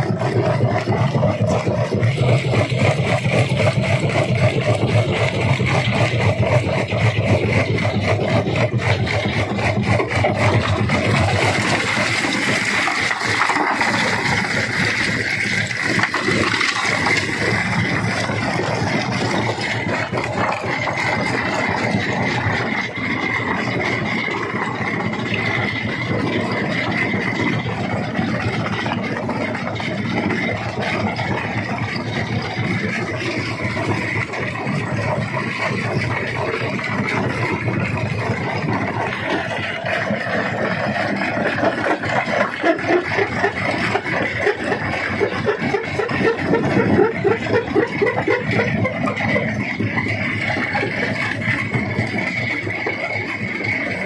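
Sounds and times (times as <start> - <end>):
high mechanical whine: 0.0 - 54.0
rock crusher breaking stone: 0.0 - 54.0.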